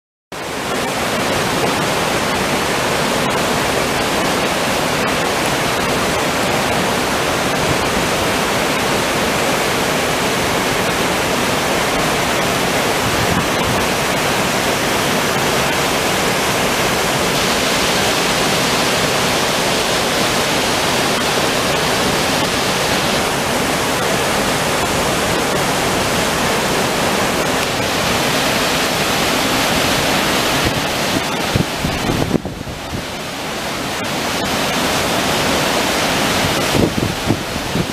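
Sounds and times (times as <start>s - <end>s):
waterfall rushing over rock: 0.4s - 37.9s.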